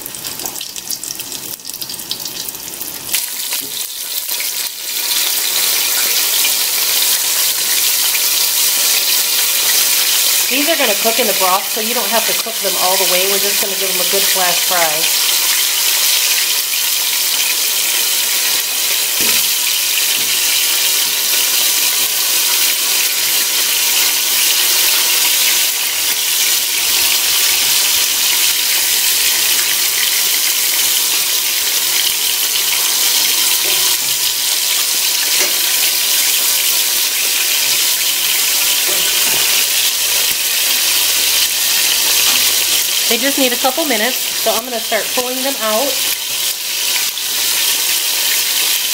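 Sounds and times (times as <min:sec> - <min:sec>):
chicken frying in hot lard: 0:00.0 - 0:48.9.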